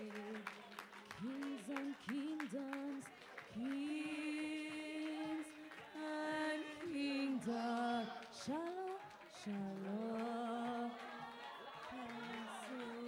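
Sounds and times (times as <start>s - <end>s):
woman singing long held notes: 1.2s - 13.0s.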